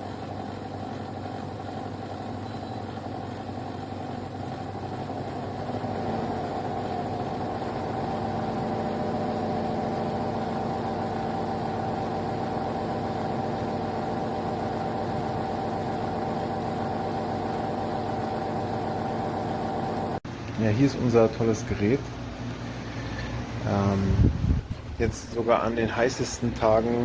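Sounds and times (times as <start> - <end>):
air conditioner humming: 3.0 - 27.0.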